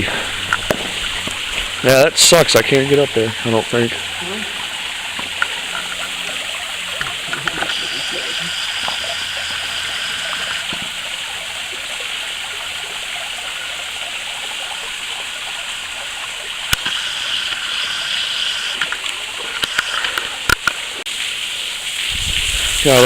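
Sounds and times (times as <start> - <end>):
small waterfall splashing: 0.0 - 23.0.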